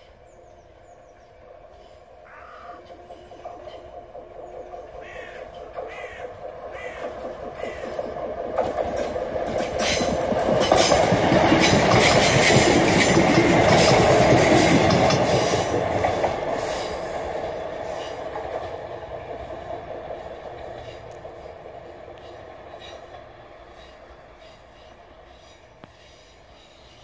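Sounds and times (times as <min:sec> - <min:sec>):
diesel train drone: 0:00.0 - 0:27.0
wheels clicking over rails: 0:02.8 - 0:25.0.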